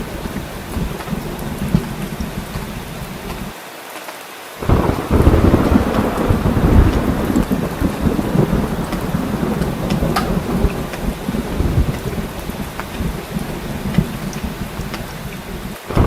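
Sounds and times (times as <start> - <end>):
rolling thunder: 0.0 - 3.5, 4.6 - 16.0
heavy rain: 0.0 - 16.0
raindrops ticking: 0.0 - 16.0.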